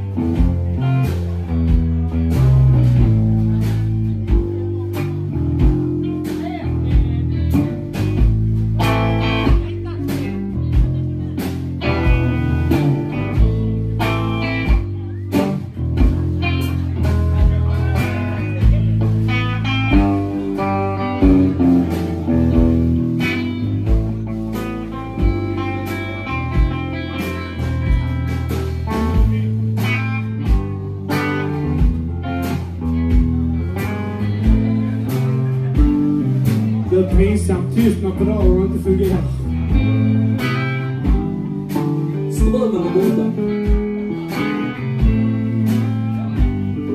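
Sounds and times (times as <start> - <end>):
bass guitar: 0.0 - 46.9
drum kit beat: 0.0 - 46.9
electric guitars: 0.0 - 46.9
live rock band playing: 0.0 - 46.9.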